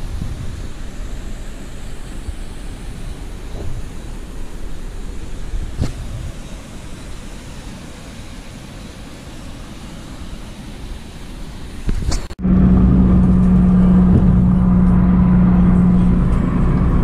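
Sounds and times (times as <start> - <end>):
car engine and road noise: 0.0 - 17.0
even rushing noise: 0.0 - 17.0.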